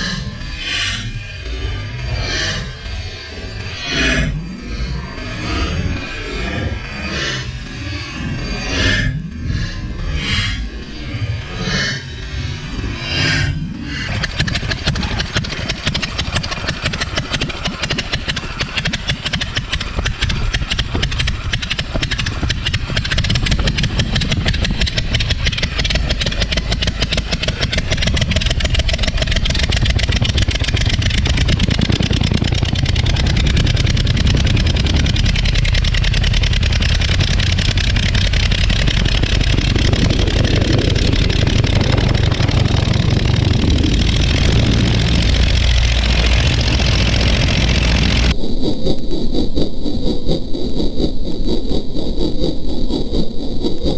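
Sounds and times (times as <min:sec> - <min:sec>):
aircraft engine running: 0:00.0 - 0:53.9.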